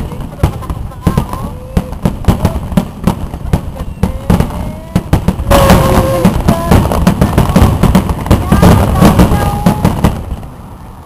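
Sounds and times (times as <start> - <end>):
fireworks bangs and crackles: 0.0 - 11.0
fireworks whistling: 0.0 - 11.0.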